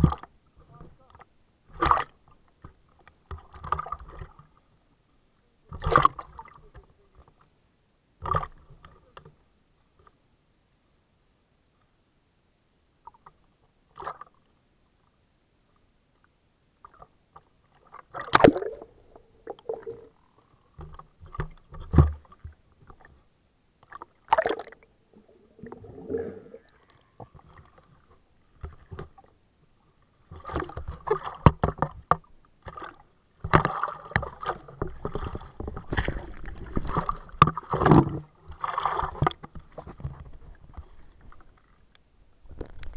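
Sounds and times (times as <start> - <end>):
water splashing and sloshing: 0.0 - 4.7, 5.7 - 7.4, 8.2 - 9.2, 13.0 - 14.5, 16.8 - 29.4, 30.0 - 42.9.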